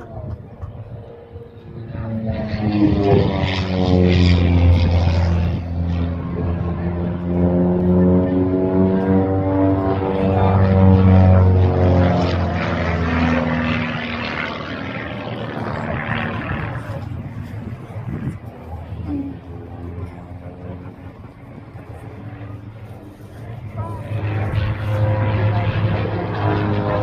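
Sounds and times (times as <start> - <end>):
propeller aircraft flying past: 0.0 - 27.0.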